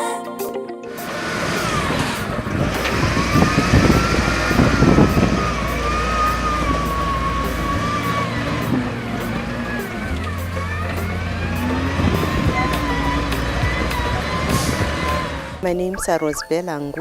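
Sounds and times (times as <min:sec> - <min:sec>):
vehicle engine rumbling: 0:01.0 - 0:15.8.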